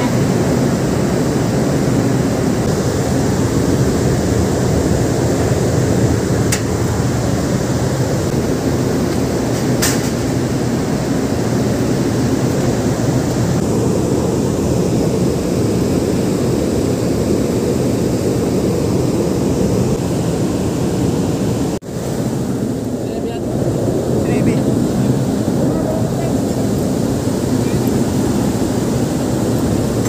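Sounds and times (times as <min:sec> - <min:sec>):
ship machinery rumble: 0:00.0 - 0:30.0
wind across deck: 0:00.0 - 0:30.0.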